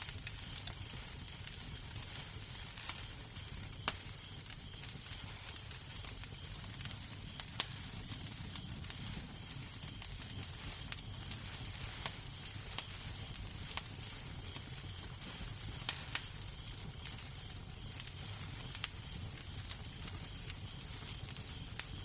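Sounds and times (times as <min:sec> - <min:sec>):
fire popping: 0:00.0 - 0:22.0
wood fire crackling: 0:00.0 - 0:22.0.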